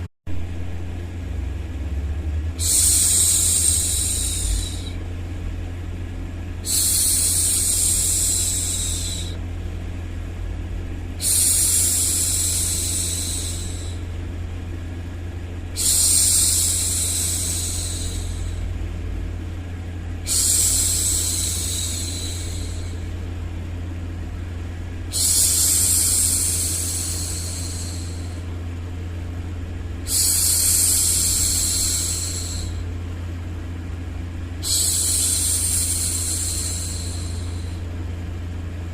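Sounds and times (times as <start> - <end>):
low white noise hum: 0.0 - 38.9.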